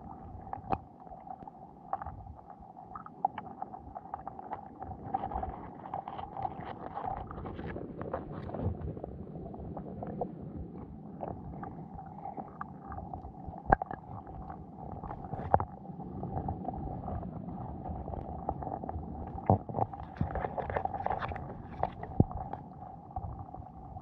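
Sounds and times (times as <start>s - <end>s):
muffled underwater rumble: 0.0s - 24.0s.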